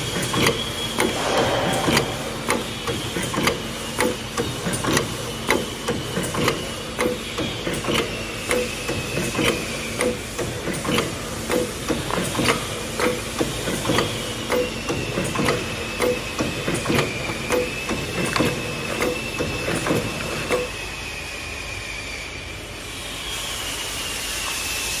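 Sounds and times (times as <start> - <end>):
machine knocking and clicking: 0.0 - 20.7
machine high whine: 0.0 - 25.0.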